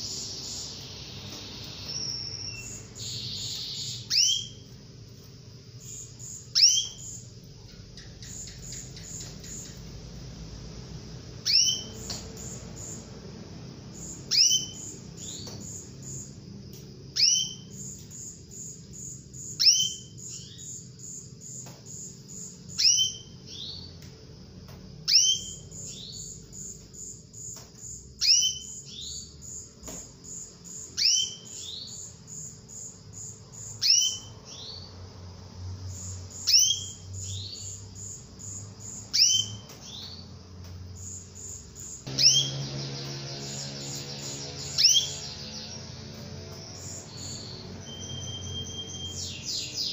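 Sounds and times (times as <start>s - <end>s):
canary chirping: 0.0s - 16.5s, 17.1s - 49.9s.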